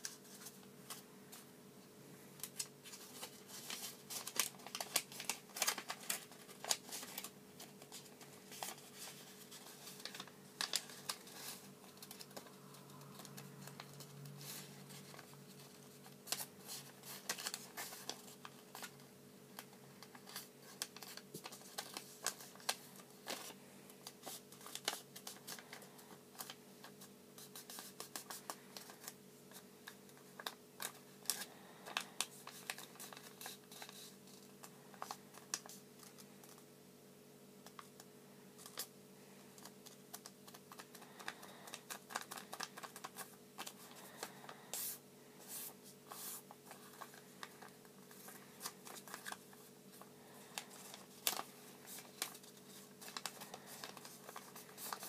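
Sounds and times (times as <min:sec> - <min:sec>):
paper rustling and crackling: 0:00.0 - 0:01.5, 0:02.4 - 0:36.7, 0:39.5 - 0:55.0
faint steady hum: 0:00.0 - 0:55.0.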